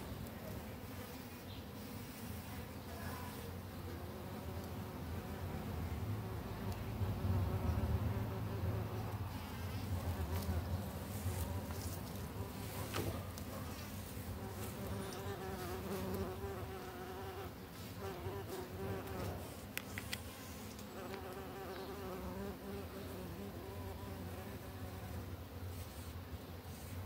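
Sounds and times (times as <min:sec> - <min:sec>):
insects buzzing: 0:00.0 - 0:27.0.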